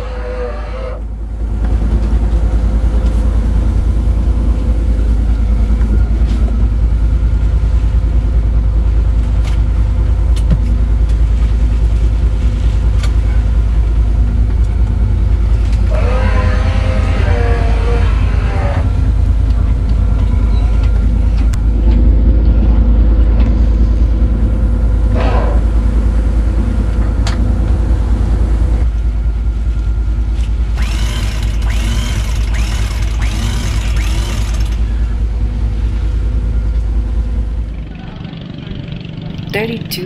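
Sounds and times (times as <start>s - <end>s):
low rumble of sailboat: 0.0s - 40.0s.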